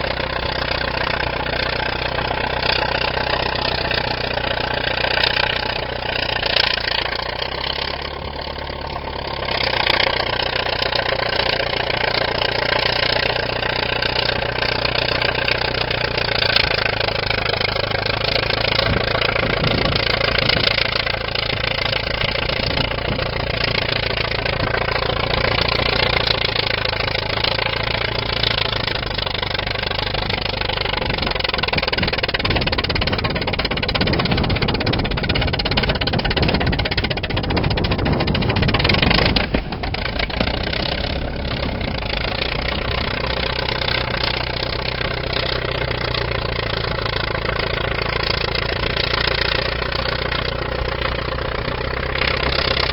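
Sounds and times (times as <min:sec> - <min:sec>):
bulldozer engine idling: 0:00.0 - 0:52.9.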